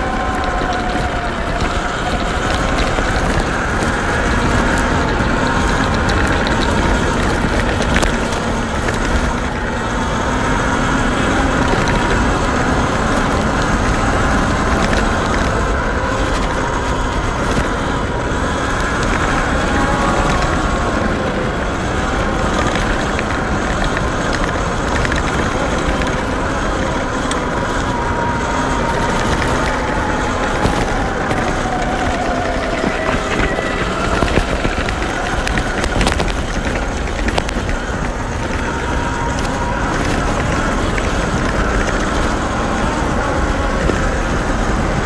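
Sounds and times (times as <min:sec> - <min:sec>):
electric motor whine: 0:00.0 - 0:45.0
rushing wind noise: 0:00.0 - 0:45.0.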